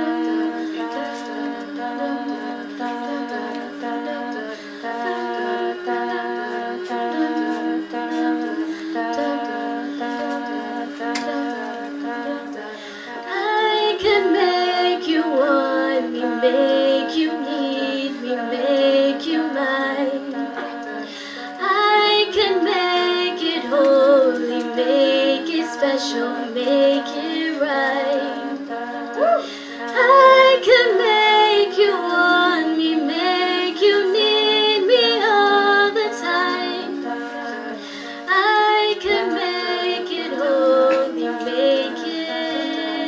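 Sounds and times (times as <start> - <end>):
lead voice singing melody: 0.0 - 43.0
women singing a cappella chords: 0.0 - 43.0.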